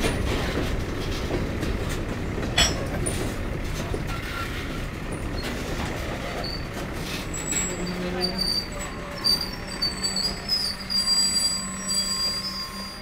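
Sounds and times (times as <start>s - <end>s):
rail car wheels rumbling: 0.0s - 13.0s.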